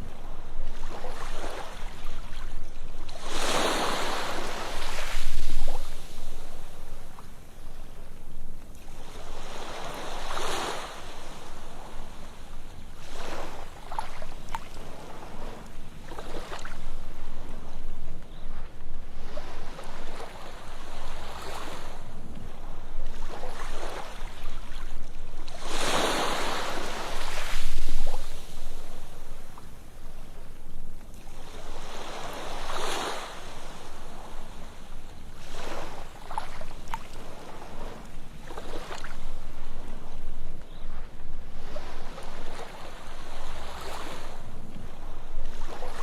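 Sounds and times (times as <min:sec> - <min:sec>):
ocean surf on sandy beach: 0:00.0 - 0:46.0.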